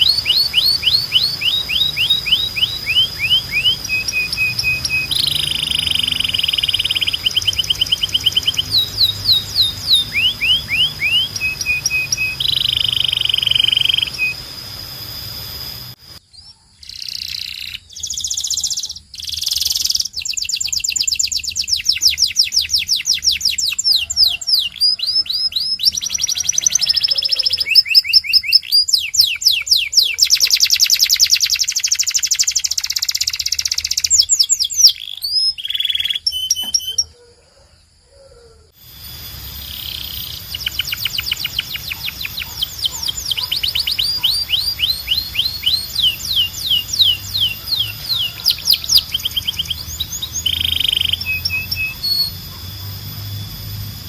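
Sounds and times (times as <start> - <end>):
canary singing trills: 0.0 - 37.6, 38.2 - 54.0.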